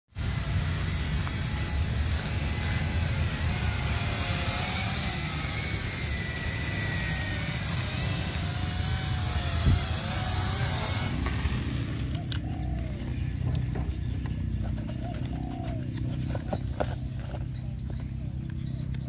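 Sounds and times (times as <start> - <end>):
toy drone motors whining: 0.1 - 19.0.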